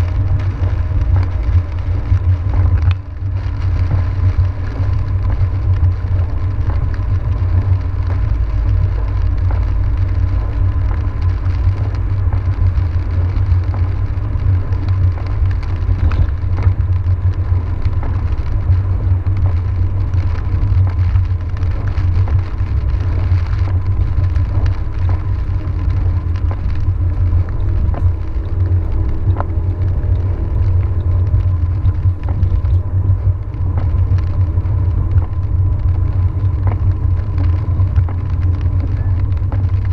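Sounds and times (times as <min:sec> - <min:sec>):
car engine and tyre rumble: 0:00.0 - 0:39.9
faint ticks: 0:00.0 - 0:39.9.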